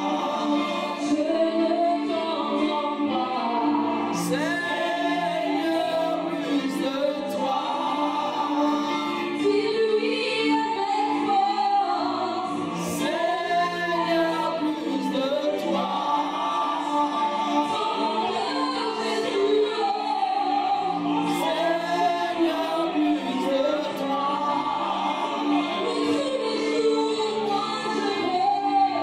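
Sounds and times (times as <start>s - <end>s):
woman singing worship song: 0.0s - 29.0s.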